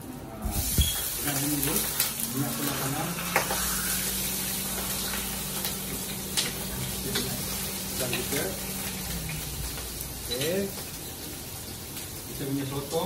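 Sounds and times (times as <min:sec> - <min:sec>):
prawns sizzling in oil: 0:00.0 - 0:13.0.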